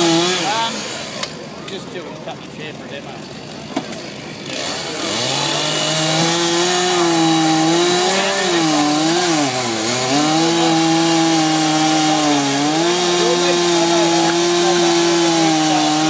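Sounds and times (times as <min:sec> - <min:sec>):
chainsaw cutting wood: 0:00.0 - 0:01.9, 0:03.2 - 0:16.0.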